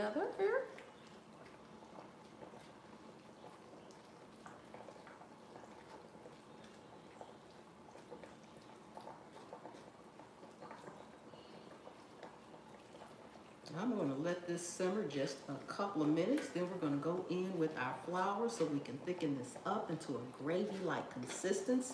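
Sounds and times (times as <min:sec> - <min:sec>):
meat bubbling in a skillet: 0:00.0 - 0:21.9
wooden spatula stirring: 0:00.8 - 0:21.9.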